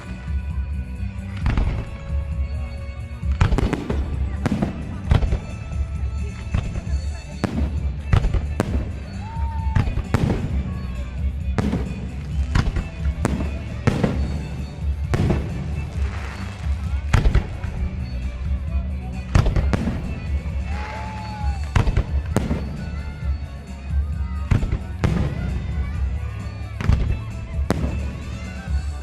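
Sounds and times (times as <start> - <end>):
firework shells bursting: 3.2 - 29.0.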